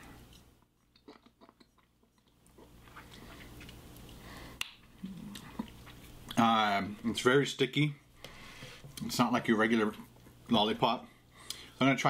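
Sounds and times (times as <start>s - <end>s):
closed-mouth hum: 0.0s - 11.9s.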